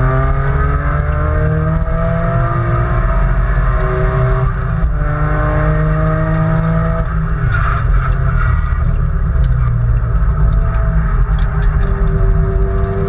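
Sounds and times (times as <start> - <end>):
car engine revving: 0.0 - 13.0
drivetrain and road rumble: 0.0 - 13.0.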